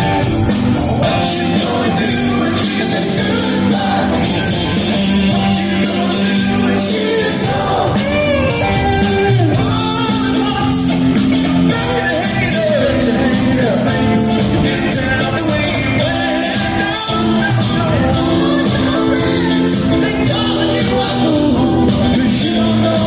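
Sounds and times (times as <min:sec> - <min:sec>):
lead melody line: 0:00.0 - 0:23.0
live soft rock band: 0:00.0 - 0:23.0.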